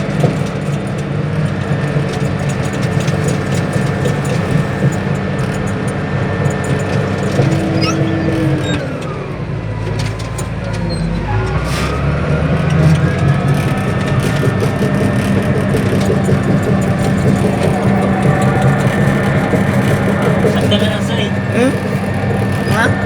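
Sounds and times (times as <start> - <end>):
bulldozer diesel engine whining: 0.0 - 23.0.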